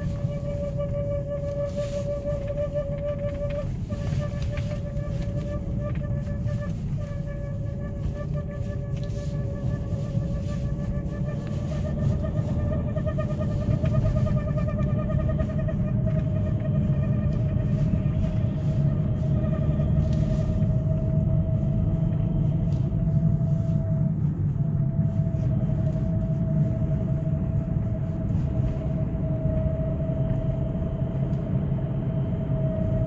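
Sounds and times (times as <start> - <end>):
road and engine rumble: 0.0 - 33.0
warbling squeak-whine from car: 0.0 - 33.0.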